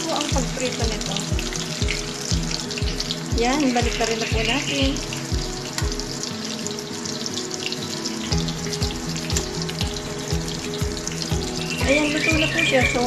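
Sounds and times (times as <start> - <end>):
background music with beat: 0.0 - 6.4, 8.2 - 13.0
food deep-frying in oil: 0.0 - 13.0.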